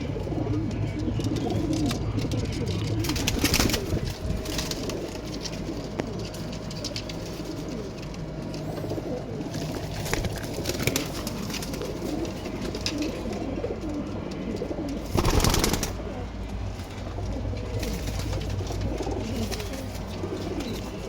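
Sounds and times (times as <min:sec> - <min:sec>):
pigeons cooing: 0:00.0 - 0:21.0
wing rustles and flutters: 0:00.1 - 0:21.0.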